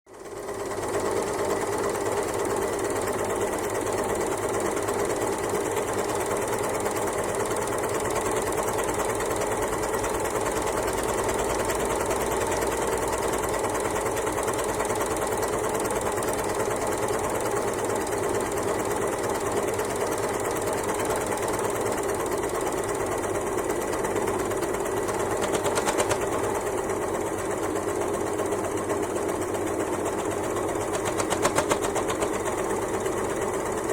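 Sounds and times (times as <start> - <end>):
sewing machine rattling: 0.2 - 33.9.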